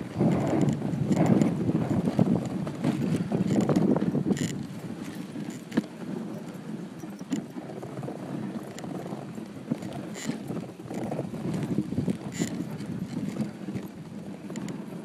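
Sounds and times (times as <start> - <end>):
sled clicks and knocks: 0.0 - 15.0
sled runners scraping on snow: 0.0 - 15.0.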